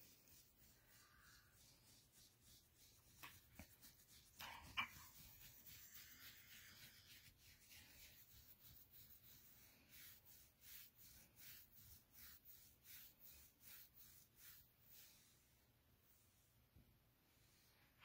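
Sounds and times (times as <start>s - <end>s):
hand scratching dog fur: 0.0s - 15.4s.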